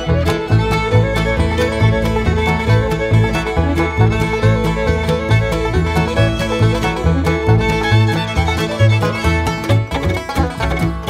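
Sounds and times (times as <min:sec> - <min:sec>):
plucked banjo: 0:00.0 - 0:11.0
pulsing bass beat: 0:00.0 - 0:11.0.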